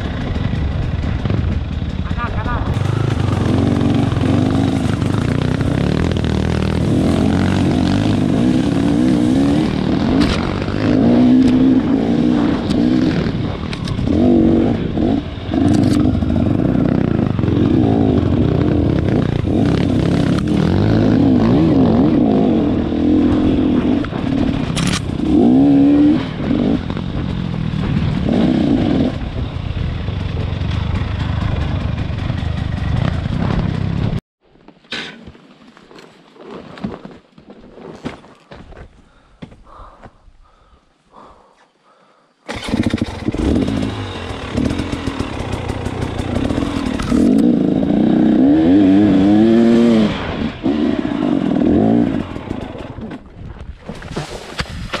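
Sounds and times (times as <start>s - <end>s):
motorcycle engine revving: 0.0s - 34.2s, 42.5s - 53.2s.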